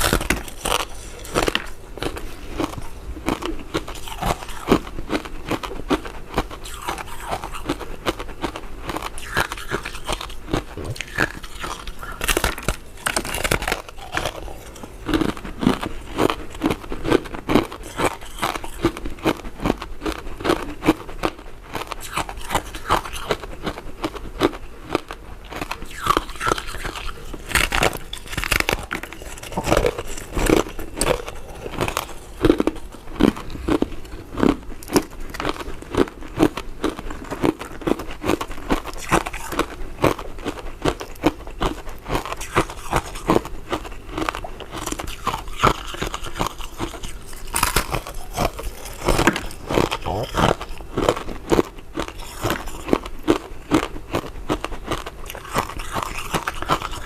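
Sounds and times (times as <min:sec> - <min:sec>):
person chewing soft candy: 0:00.0 - 0:57.0.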